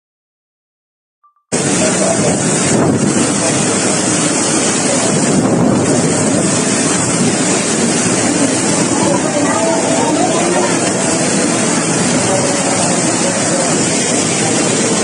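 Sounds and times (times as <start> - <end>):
strong wind buffeting microphone: 1.6 - 15.0.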